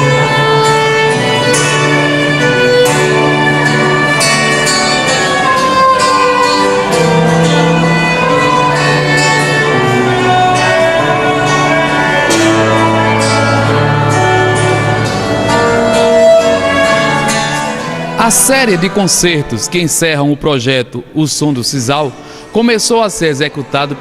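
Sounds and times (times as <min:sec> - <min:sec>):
violin melody: 0:00.0 - 0:24.0.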